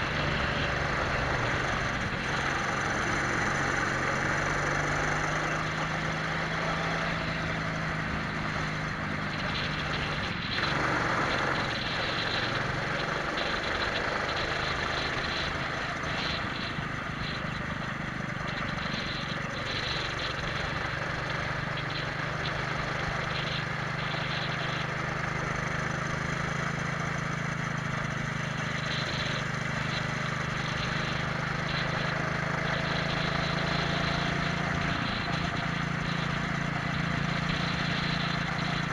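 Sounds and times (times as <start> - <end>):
kart engines running: 0.0 - 38.9.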